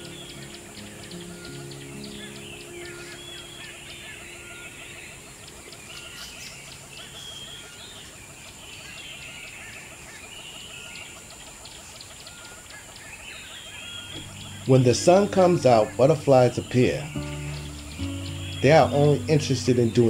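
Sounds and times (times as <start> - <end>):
birds chirping and whistling: 0.0 - 20.0.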